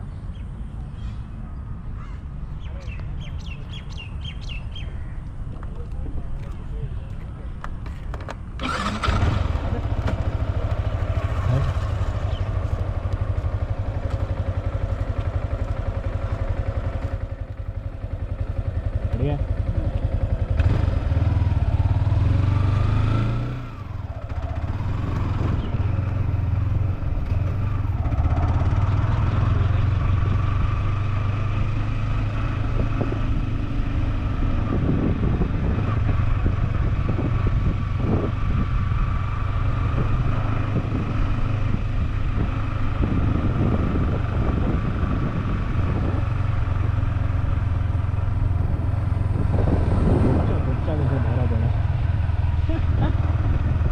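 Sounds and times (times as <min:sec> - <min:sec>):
motorcycle engine revving and cruising: 0:00.0 - 0:53.9.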